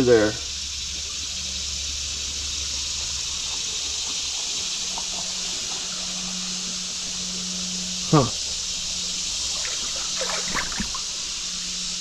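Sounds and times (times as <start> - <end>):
creek water running: 0.1 - 12.0.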